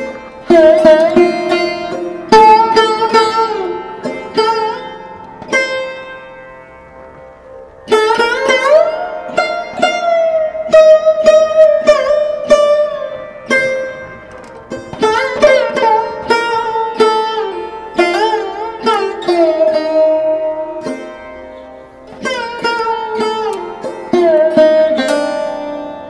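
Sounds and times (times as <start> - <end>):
plucked string melody: 0.0 - 26.0.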